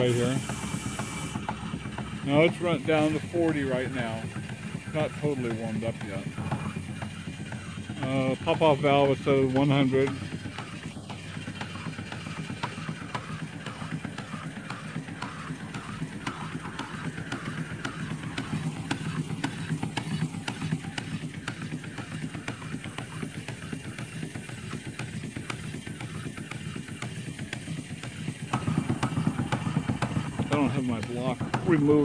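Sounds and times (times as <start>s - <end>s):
steam engine running: 0.0s - 32.0s.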